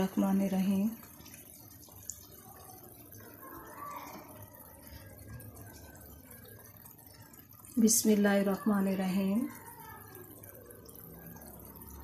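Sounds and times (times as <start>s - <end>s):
food bubbling in a frying pan: 0.0s - 12.0s.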